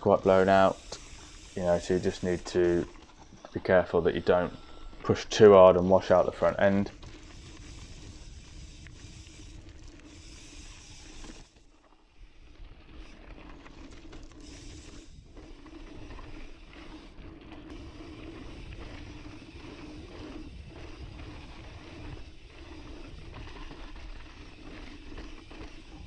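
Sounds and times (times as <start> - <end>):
bike rattling: 0.0 - 26.0
bike tyres rolling over dirt: 0.0 - 26.0.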